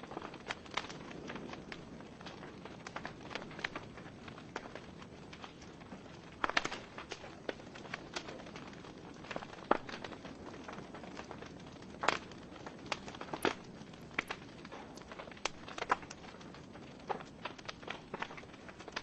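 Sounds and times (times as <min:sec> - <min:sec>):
fire hissing: 0:00.0 - 0:19.0
logs crackling and popping: 0:00.0 - 0:19.0.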